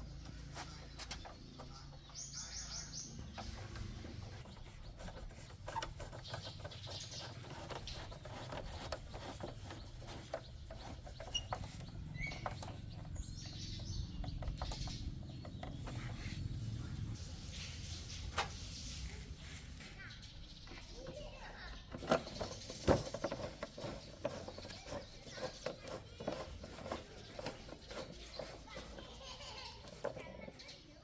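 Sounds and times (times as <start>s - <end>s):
bird calls: 0.0s - 31.0s.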